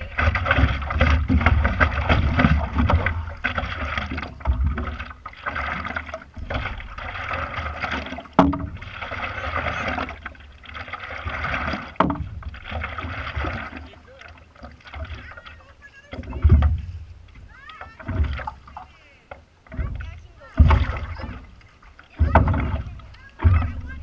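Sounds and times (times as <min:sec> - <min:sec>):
water splashing against paddleboard: 0:00.0 - 0:24.0.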